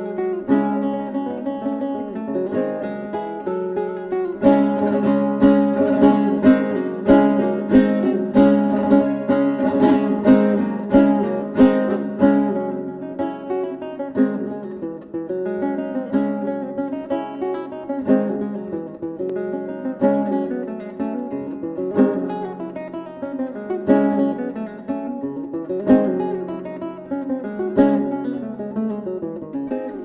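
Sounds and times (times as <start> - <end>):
acoustic guitar music: 0.0 - 30.0.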